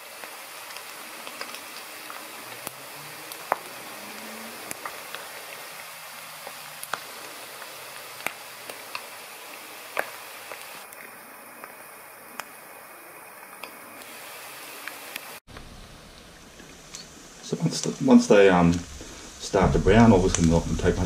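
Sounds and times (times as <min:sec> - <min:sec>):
fish frying in oil: 0:00.0 - 0:21.0.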